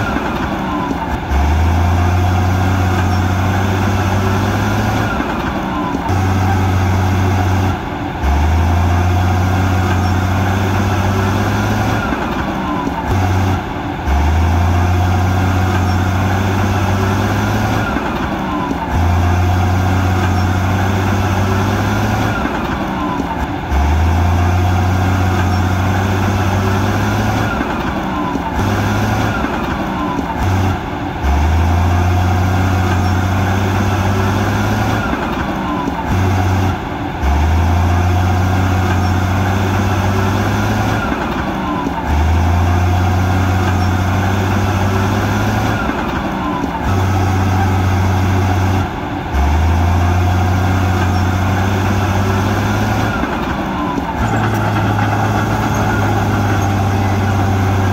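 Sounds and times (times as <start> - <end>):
diesel machinery engine drone: 0.0 - 57.9.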